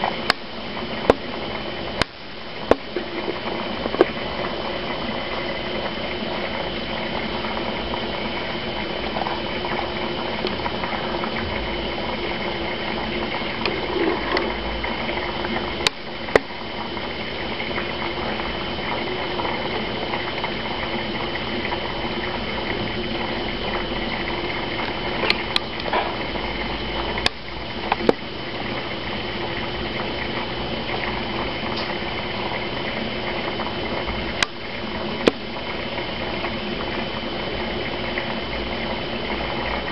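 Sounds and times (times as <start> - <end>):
aquarium filter water bubbling: 0.0 - 39.9.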